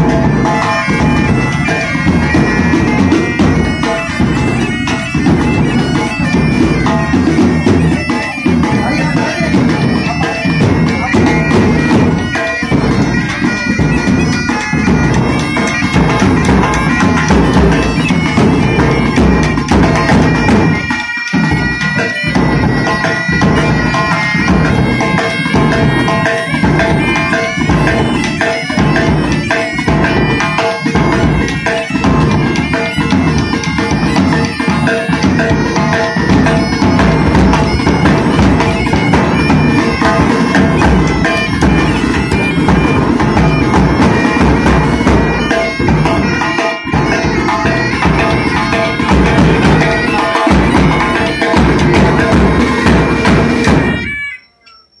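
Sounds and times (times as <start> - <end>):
bagpipes playing: 0.0 - 54.6.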